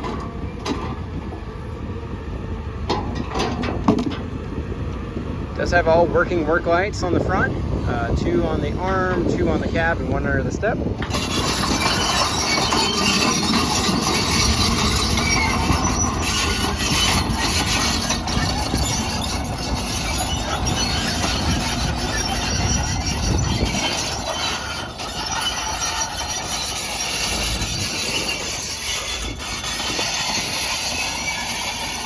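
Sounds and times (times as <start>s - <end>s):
excavator running: 0.0s - 32.0s.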